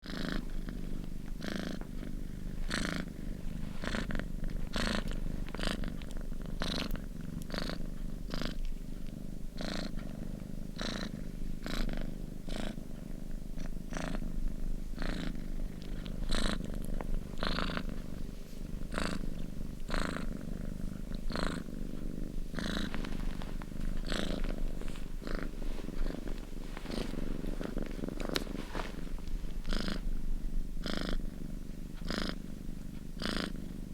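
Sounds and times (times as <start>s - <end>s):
kitten purring: 0.0s - 33.9s.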